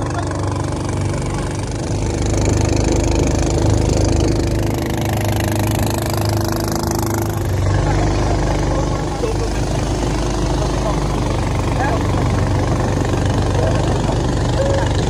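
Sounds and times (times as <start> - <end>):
motor boat engine running: 0.0 - 15.0
water rushing along hull: 0.0 - 15.0.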